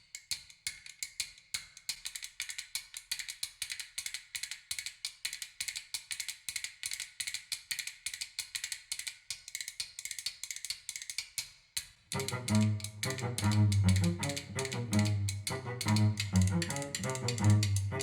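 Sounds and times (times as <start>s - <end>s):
high clicking percussion: 0.1s - 18.0s.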